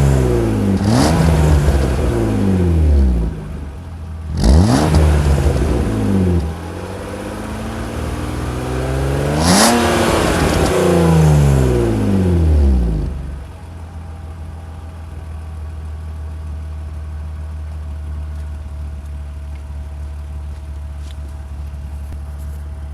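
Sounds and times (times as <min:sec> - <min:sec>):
car engine revving and idling: 0:00.0 - 0:22.9.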